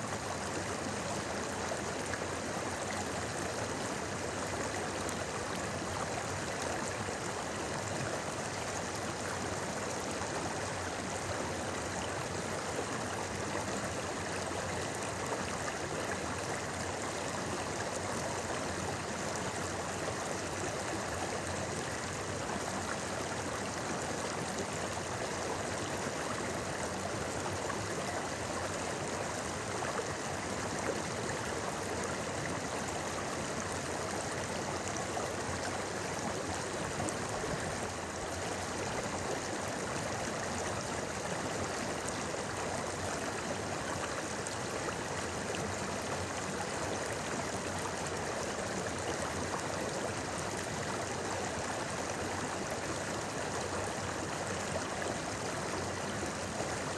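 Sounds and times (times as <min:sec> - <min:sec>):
stream flowing over stones: 0:00.0 - 0:56.9.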